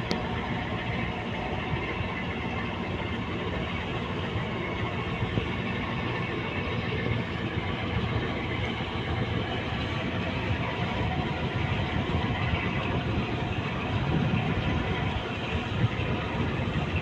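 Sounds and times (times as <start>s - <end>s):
boat diesel engine droning: 0.0s - 17.0s.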